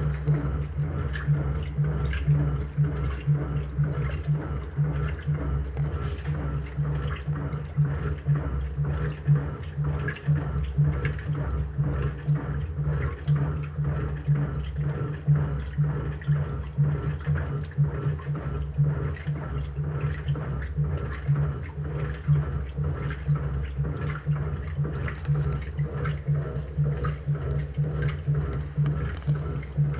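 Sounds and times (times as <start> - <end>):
low motor hum: 0.0 - 29.9
washing machine water sloshing: 0.0 - 29.9
water splashes: 0.0 - 29.9.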